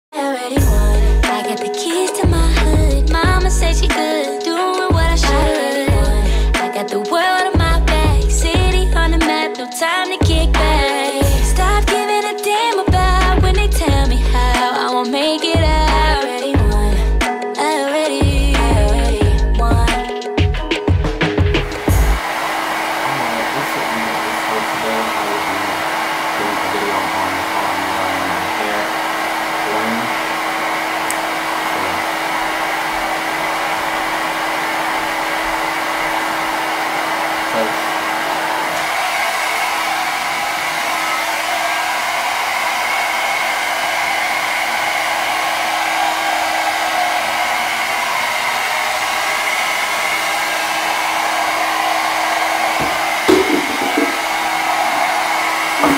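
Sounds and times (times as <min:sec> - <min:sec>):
hair dryer running: 0:00.6 - 0:19.4, 0:21.2 - 0:55.9.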